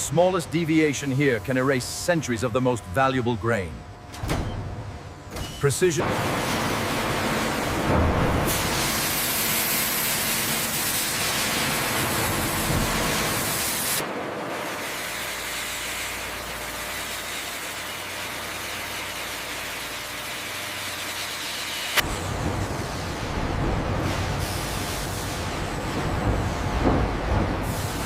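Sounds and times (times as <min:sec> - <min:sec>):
machinery noise with hiss: 0:00.0 - 0:28.0.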